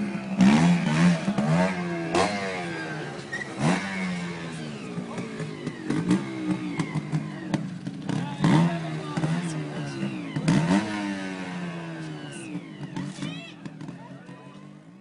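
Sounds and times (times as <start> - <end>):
motorcycle engine idling: 0.0 - 15.0
motorcycle throttle blips: 0.0 - 15.0.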